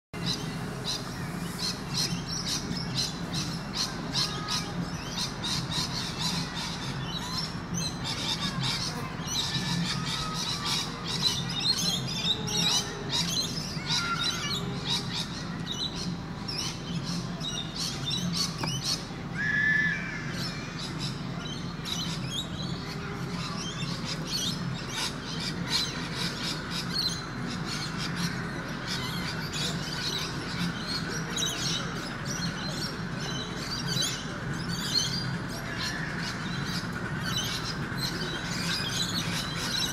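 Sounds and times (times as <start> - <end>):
birds squawking and chattering: 0.2 - 39.9
low background hum: 0.2 - 39.9.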